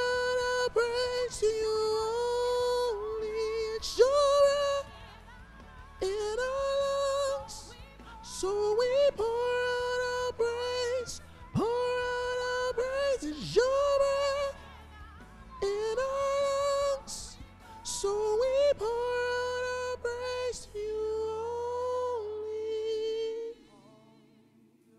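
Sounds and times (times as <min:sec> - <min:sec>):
soprano voice singing: 0:00.0 - 0:24.3
faint low accompaniment: 0:00.0 - 0:24.9.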